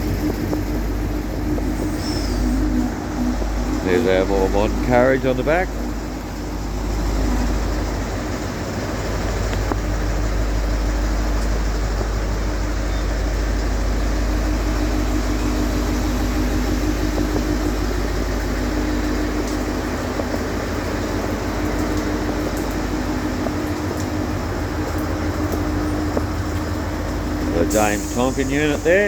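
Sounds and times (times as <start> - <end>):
diesel train engine idling: 0.0 - 29.0.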